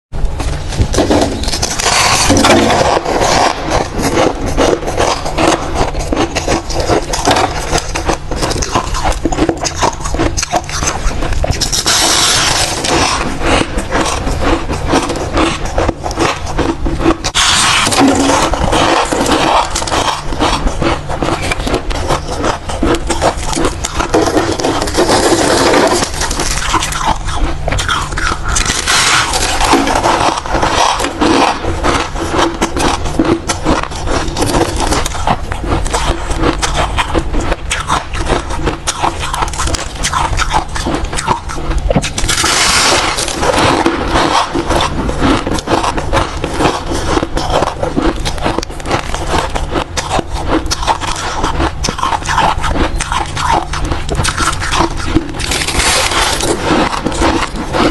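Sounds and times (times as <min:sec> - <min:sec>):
crunching chews of ice: 0:00.4 - 0:57.9.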